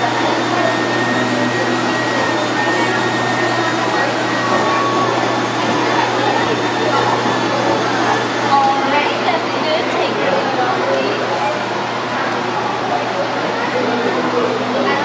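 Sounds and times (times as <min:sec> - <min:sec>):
low machine hum: 0:00.0 - 0:15.0
stuffing machine blower rushing air: 0:00.0 - 0:15.0.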